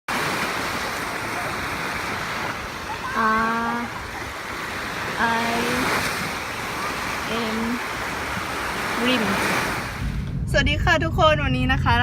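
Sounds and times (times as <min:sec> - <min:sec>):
sea surf rushing: 0:00.1 - 0:10.4.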